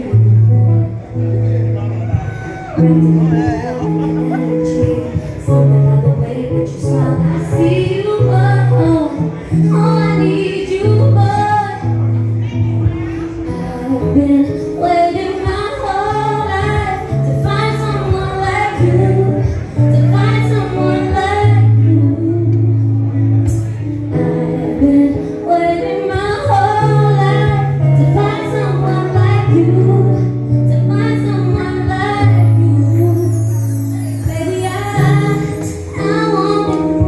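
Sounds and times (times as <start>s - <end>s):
woman singing: 0.0s - 0.8s, 2.8s - 12.0s, 13.4s - 23.0s, 24.1s - 37.0s
bass guitar low notes: 0.0s - 37.0s
live band playing: 0.0s - 37.0s.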